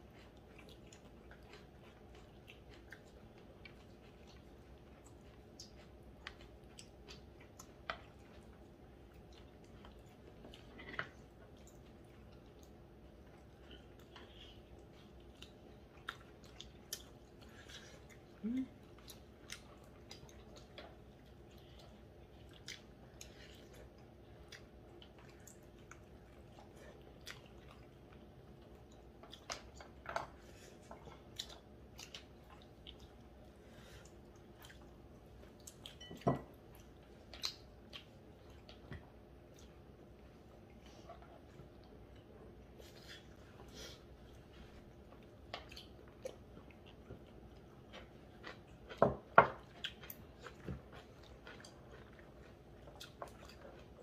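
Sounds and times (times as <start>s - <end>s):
chewing and gnawing meat: 0.0s - 54.0s
faint steady hum: 0.0s - 54.0s.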